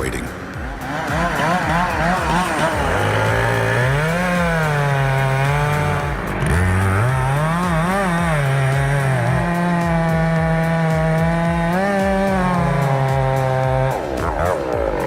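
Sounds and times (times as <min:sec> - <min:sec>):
chainsaw cutting wood: 0:00.1 - 0:15.0.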